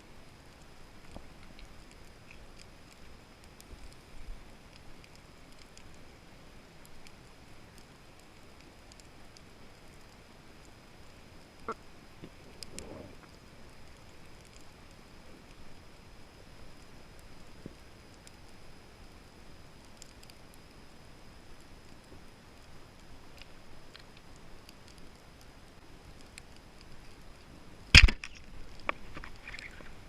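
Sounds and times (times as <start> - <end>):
faint underwater ambience: 0.0 - 30.0
small clicks and crackles: 0.0 - 30.0.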